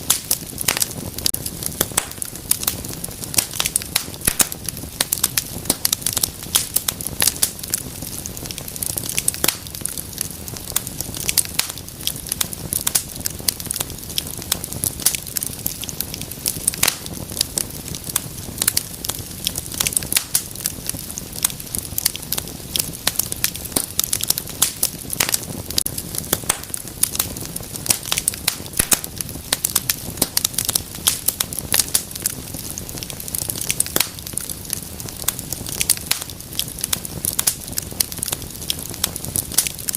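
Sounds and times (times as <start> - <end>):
fire crackling and popping: 0.0 - 39.9
rush of flame: 0.0 - 39.9.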